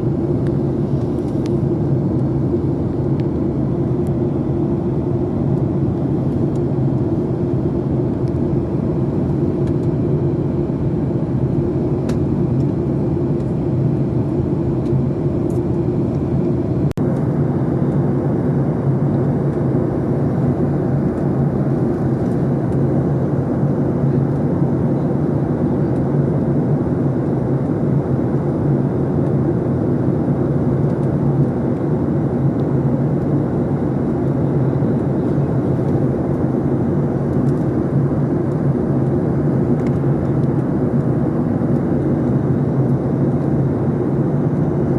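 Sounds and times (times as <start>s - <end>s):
airplane engine drone: 0.0s - 44.9s.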